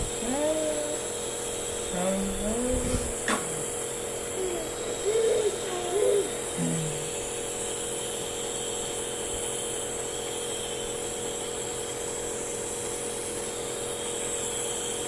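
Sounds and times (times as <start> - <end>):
nebulizer motor hum with hiss: 0.0 - 15.0.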